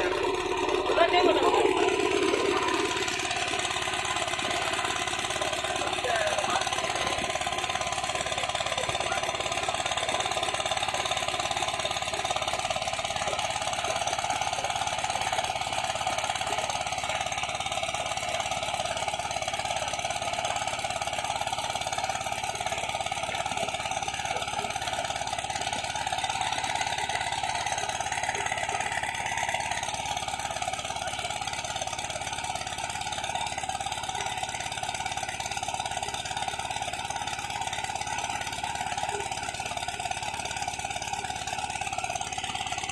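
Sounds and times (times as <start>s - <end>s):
motorboat engine running: 0.0s - 42.9s.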